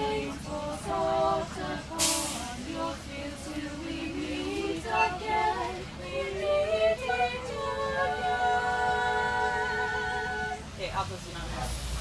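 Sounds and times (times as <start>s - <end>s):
girls singing: 0.0s - 10.8s.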